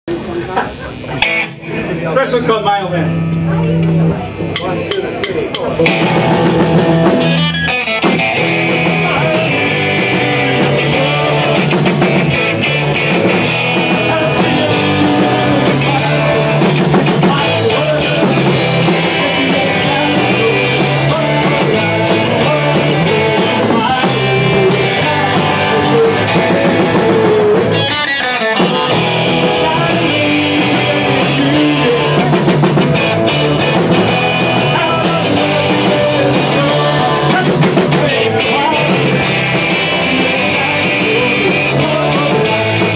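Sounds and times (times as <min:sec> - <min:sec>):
live rock band playing: 0:00.1 - 0:42.9
man singing: 0:05.7 - 0:42.9.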